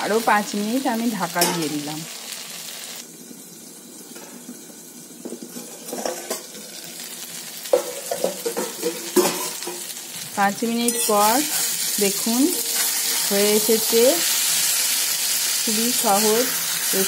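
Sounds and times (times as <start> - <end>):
vegetables frying sizzle: 0.0 - 17.0.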